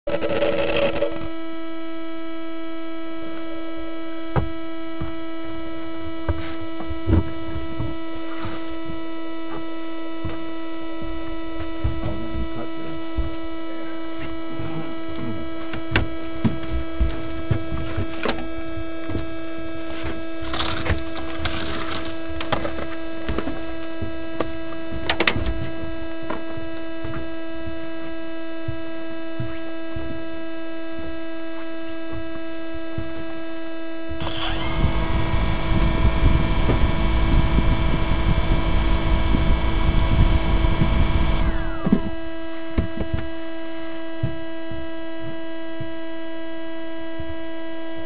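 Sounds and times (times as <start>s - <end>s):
drone motors humming: 0.1s - 46.2s.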